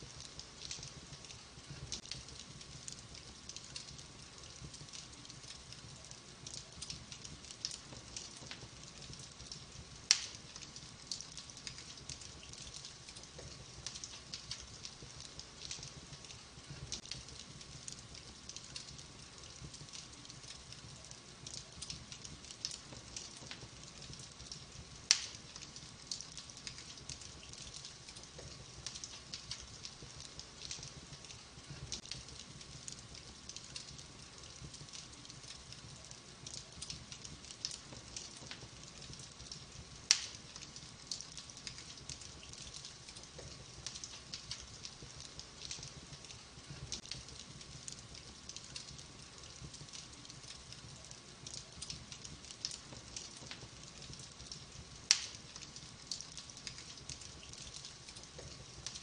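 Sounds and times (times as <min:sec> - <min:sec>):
wood fire crackling: 0:00.0 - 0:59.0
loud fire pops: 0:06.5 - 0:20.4, 0:21.4 - 0:35.4, 0:36.0 - 0:50.4, 0:51.0 - 0:59.0.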